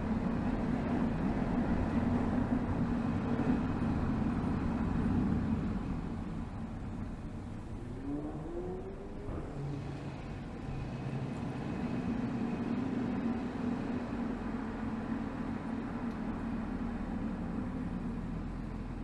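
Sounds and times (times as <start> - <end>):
diesel car engine drone: 0.0 - 19.0.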